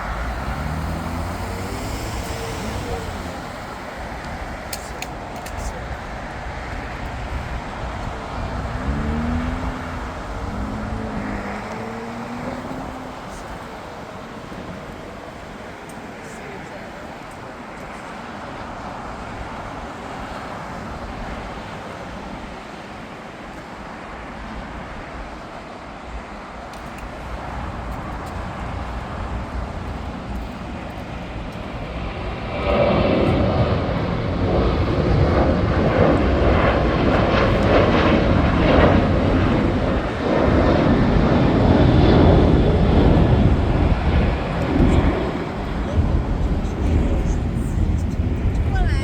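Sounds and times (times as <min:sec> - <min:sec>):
jet airliner passing: 0:00.0 - 0:49.0.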